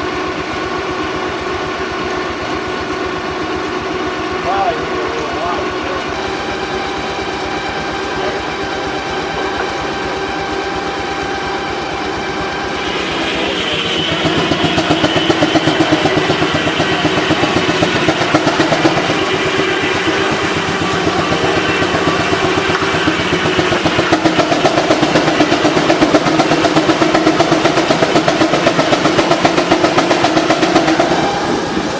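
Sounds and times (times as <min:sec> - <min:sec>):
high whine: 0:00.0 - 0:31.9
steam engine running: 0:00.0 - 0:31.9.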